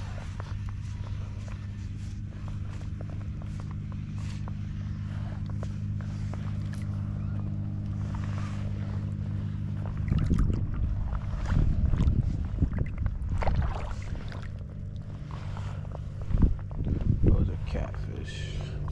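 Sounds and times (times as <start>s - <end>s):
low rumble of water: 0.0s - 18.9s.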